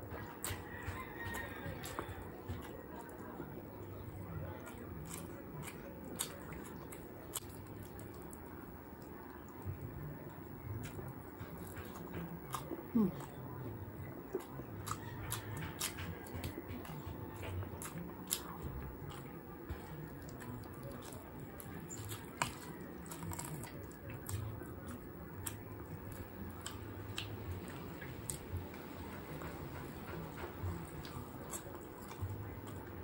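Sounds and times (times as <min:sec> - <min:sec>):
person chewing with smacking: 0:00.0 - 0:33.0.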